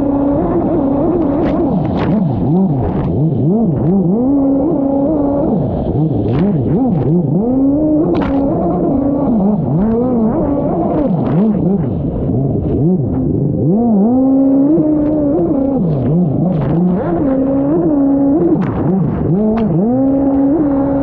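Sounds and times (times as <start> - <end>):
small engine revving: 0.0 - 21.0.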